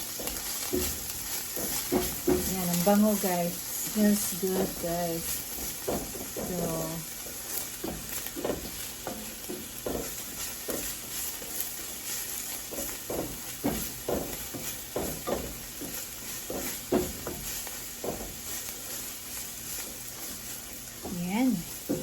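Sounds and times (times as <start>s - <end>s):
onion sizzling in oil: 0.0s - 22.0s
utensil stirring and scraping: 0.0s - 22.0s.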